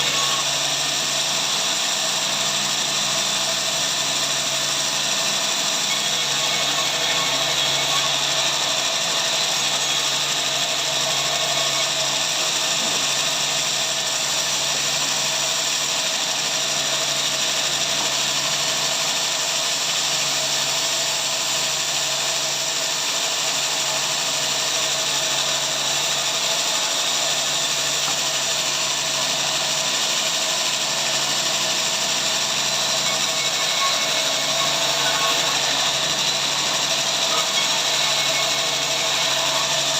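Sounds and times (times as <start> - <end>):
power saw running: 0.0 - 39.9.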